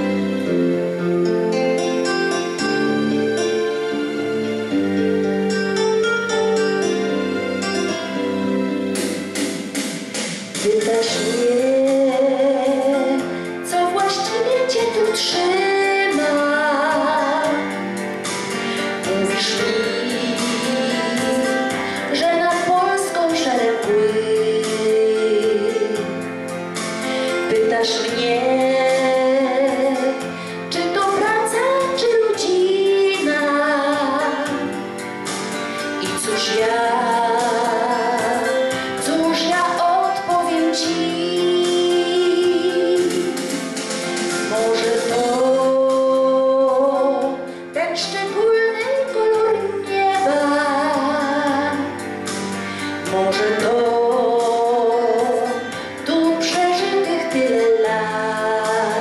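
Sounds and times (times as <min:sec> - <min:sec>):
instrumental accompaniment: 0:00.0 - 0:59.0
woman singing into a microphone: 0:10.6 - 0:34.8, 0:36.0 - 0:59.0.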